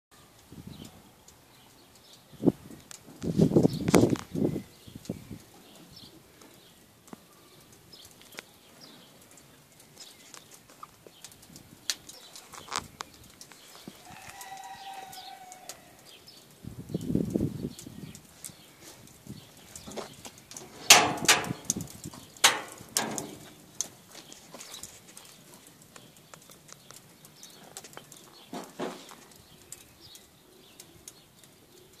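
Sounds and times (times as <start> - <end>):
wood fire crackling: 0.2 - 32.0.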